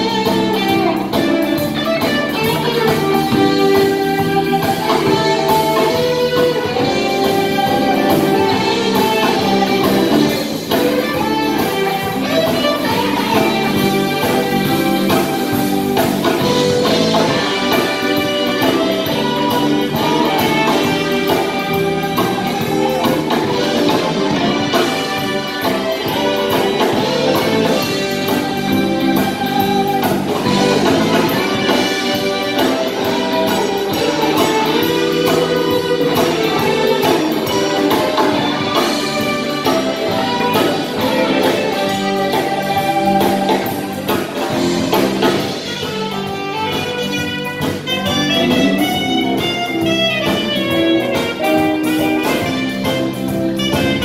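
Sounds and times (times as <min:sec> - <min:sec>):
live jazz band playing: 0:00.0 - 0:54.0.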